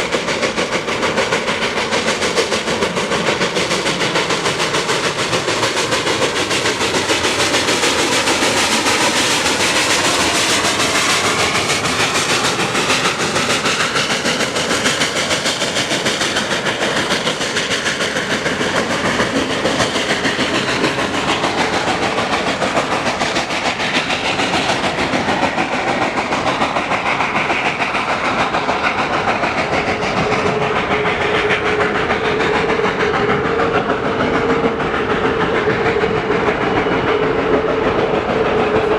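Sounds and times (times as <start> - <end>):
steam locomotive running: 0.0 - 38.9
train wheels on rails: 0.0 - 38.9.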